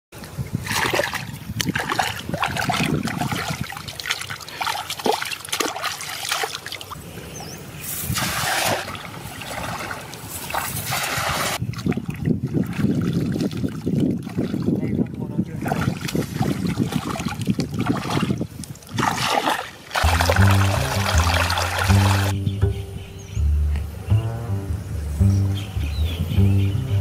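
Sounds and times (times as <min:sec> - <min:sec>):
muddy water splashing: 0:00.2 - 0:22.4.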